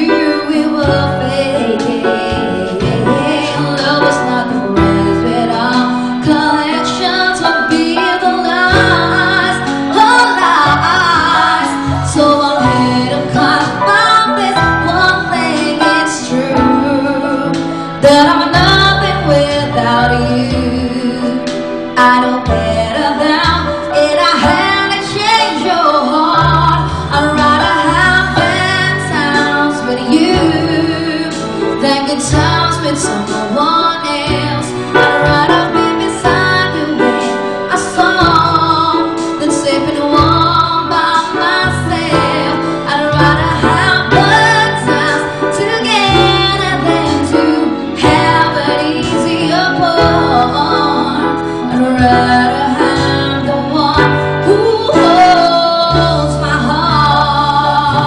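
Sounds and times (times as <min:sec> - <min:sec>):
electric keyboard chords and bass: 0:00.0 - 0:58.0
woman singing into microphone: 0:00.0 - 0:58.0.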